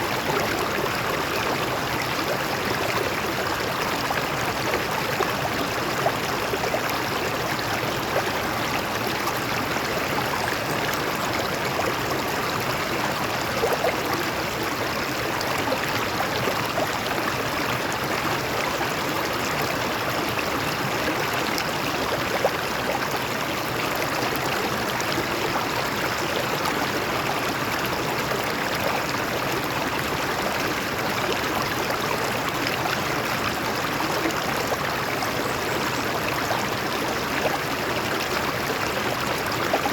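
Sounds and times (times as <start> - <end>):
stream water flowing over rocks: 0.0 - 39.9.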